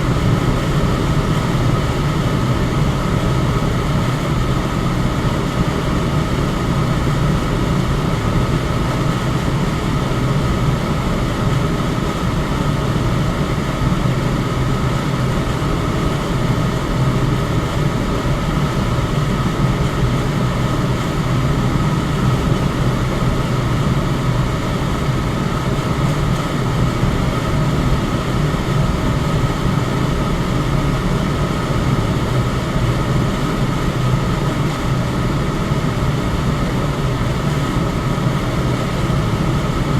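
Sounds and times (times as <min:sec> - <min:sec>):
electric fan rushing air: 0:00.0 - 0:39.9.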